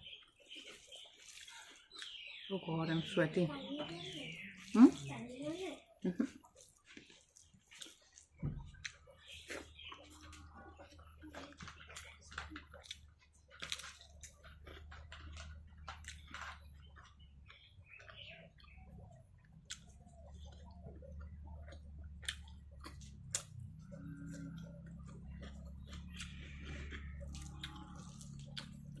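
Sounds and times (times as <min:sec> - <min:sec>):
person chewing food: 0:00.0 - 0:02.4, 0:04.2 - 0:29.0.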